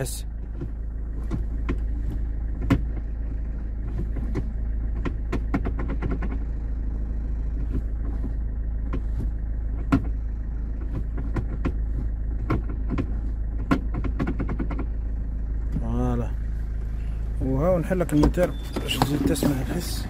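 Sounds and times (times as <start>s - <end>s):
car engine idling: 0.0s - 20.0s
gear lever ticking and rattling: 0.0s - 20.0s.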